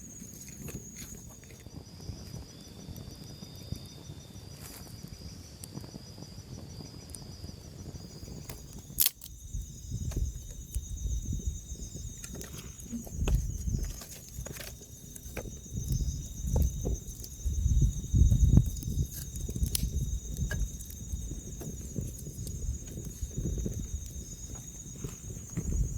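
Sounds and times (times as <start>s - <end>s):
insects trilling: 0.0s - 25.9s.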